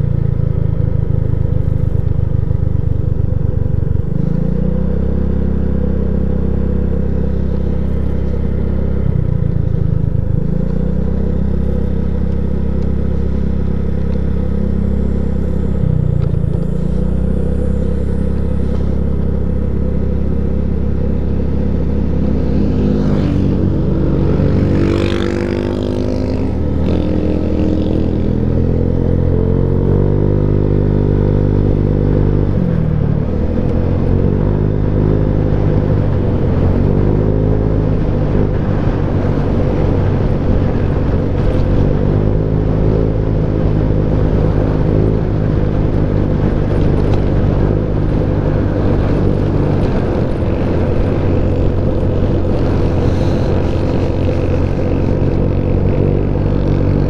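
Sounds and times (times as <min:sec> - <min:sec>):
scooter engine running: 0:00.0 - 0:37.3, 0:38.0 - 0:57.0.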